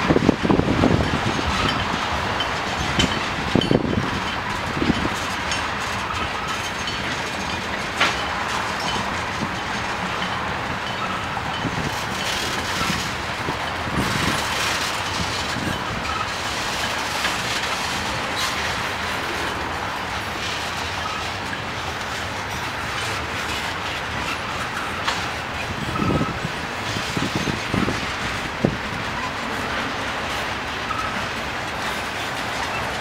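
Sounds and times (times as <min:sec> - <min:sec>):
train wheels rumbling on rails: 0:00.0 - 0:33.0
wheels clacking over rail joints: 0:00.0 - 0:33.0.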